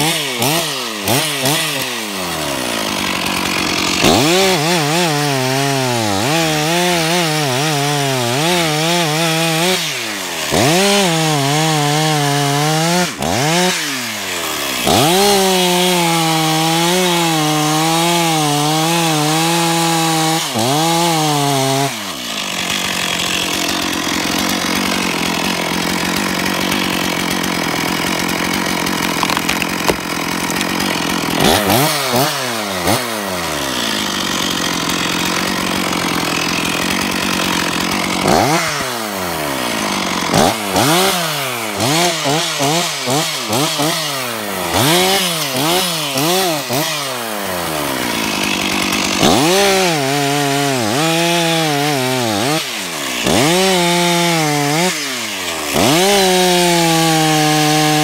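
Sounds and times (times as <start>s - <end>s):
chainsaw chain chipping wood: 0.0s - 58.0s
chainsaw engine revving: 0.0s - 58.0s.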